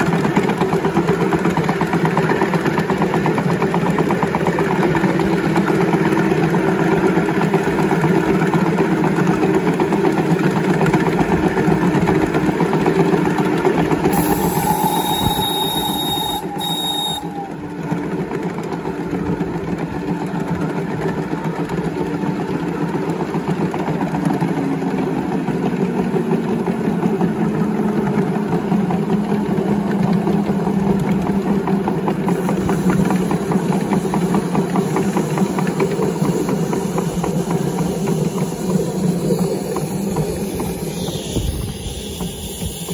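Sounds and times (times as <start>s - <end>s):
model steam locomotive exhaust beats: 0.0s - 42.9s.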